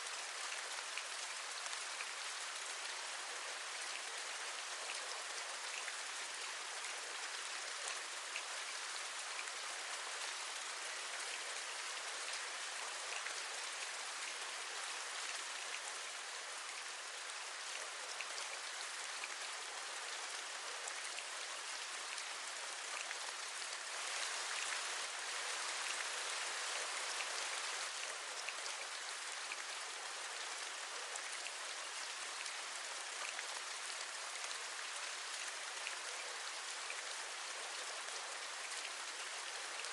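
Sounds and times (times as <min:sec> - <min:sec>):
steady rain with drop taps: 0:00.0 - 0:39.9.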